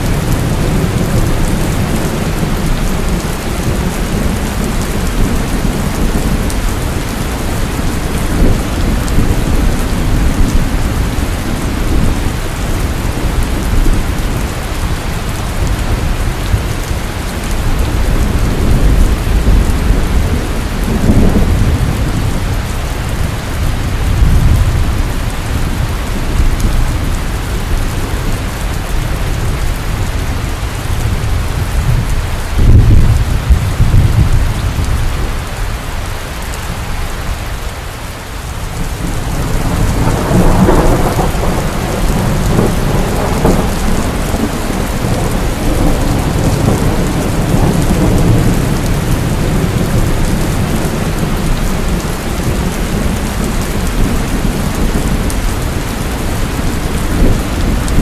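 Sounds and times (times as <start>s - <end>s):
rolling thunder: 0.0s - 35.6s, 38.7s - 58.0s
heavy rain pouring: 0.0s - 58.0s.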